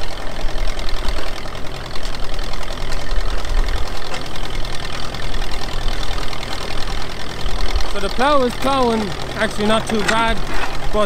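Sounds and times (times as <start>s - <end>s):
tractor engine working under load: 0.0s - 11.0s.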